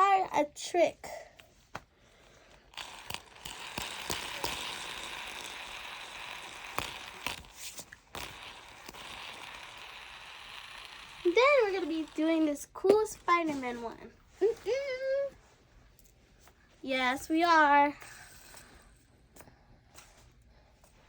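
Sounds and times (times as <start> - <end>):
fidget spinner whirring: 0.0 - 16.1, 16.8 - 21.0.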